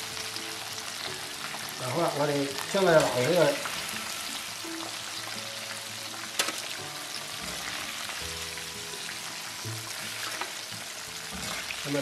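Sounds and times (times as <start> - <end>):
squid deep-frying in oil: 0.0 - 12.0.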